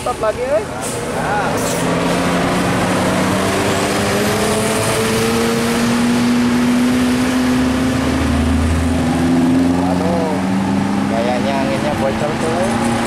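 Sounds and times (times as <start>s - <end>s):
bus diesel engine accelerating: 0.0s - 13.0s
road noise: 0.0s - 13.0s.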